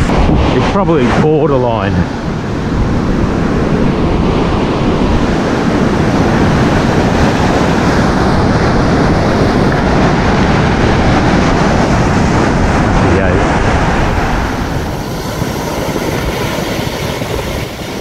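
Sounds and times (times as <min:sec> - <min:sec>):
surf rushing: 0:00.0 - 0:18.0
wind buffeting microphone: 0:00.0 - 0:18.0.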